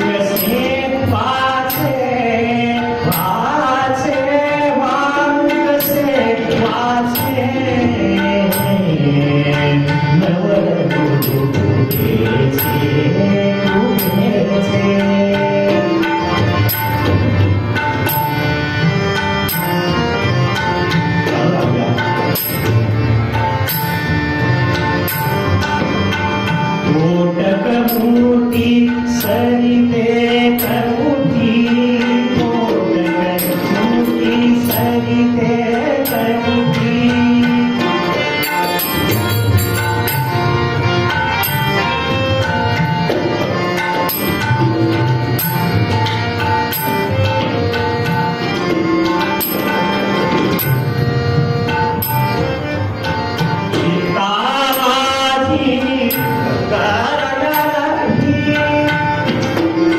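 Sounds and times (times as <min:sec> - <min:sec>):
harmonium: 0:00.0 - 0:59.9
tabla beat: 0:00.0 - 0:59.9.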